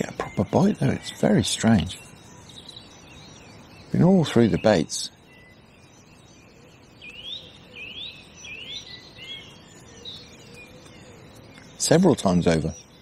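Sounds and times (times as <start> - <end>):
outdoor background hiss: 0.0 - 13.0
songbird singing: 0.0 - 13.0.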